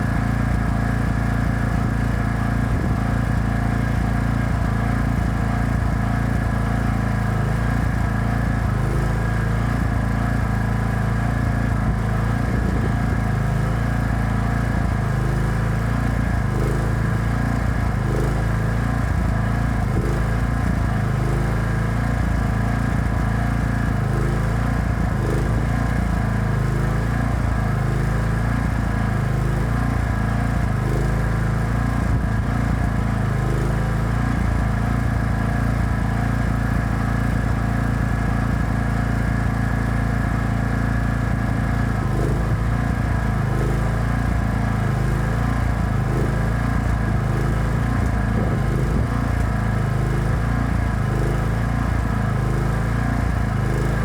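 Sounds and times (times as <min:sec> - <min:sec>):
welding generator engine droning: 0:00.0 - 0:54.0.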